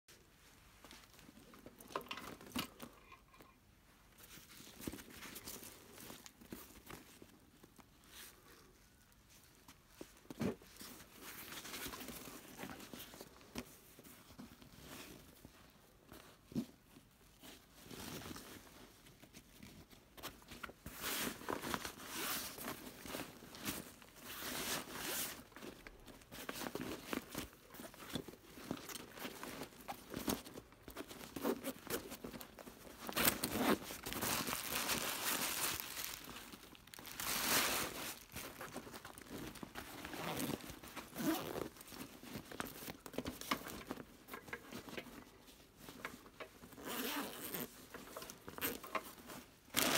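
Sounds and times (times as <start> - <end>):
fabric bag rustling: 0.3 - 49.9.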